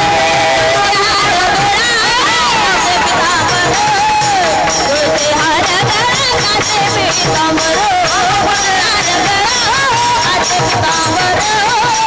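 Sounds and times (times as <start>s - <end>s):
jingling percussion: 0.0s - 12.0s
person singing devotional melody: 0.0s - 12.0s.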